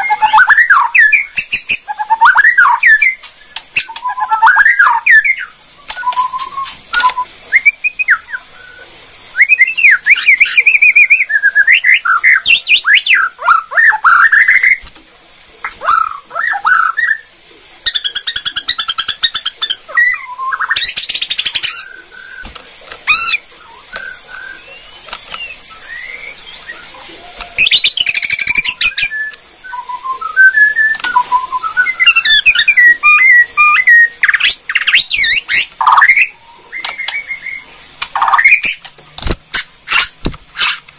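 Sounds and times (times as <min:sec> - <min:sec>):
bird singing whistled phrases: 0:00.0 - 0:14.8, 0:15.8 - 0:17.3, 0:17.9 - 0:22.5, 0:23.1 - 0:38.8.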